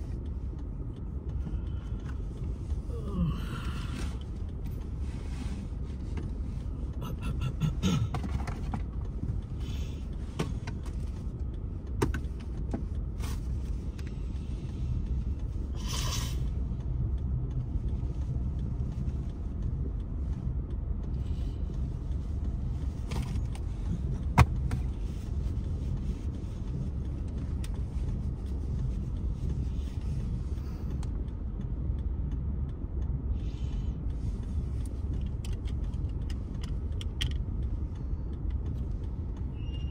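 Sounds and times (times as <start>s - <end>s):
low rumble inside car: 0.0s - 39.9s.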